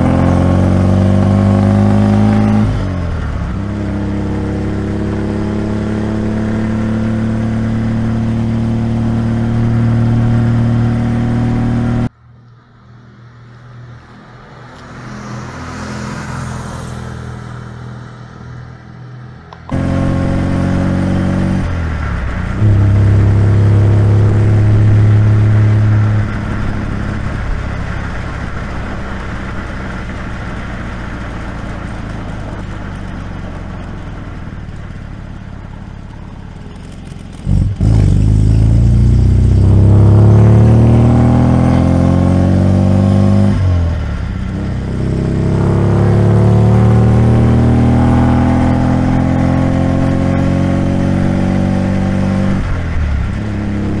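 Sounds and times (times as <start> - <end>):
car engine accelerating: 0.0 - 12.1, 19.4 - 54.0.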